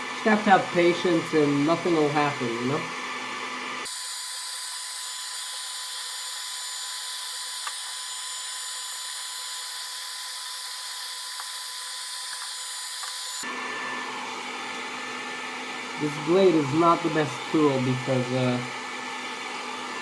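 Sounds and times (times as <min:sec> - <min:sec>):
hot-air blower hissing: 0:00.0 - 0:20.0.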